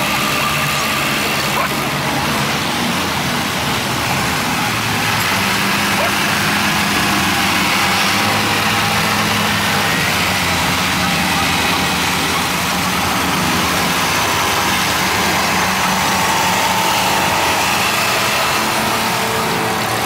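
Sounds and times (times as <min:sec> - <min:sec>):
crowd chatter: 0:00.0 - 0:20.0
tractor engines driving past: 0:00.0 - 0:20.0.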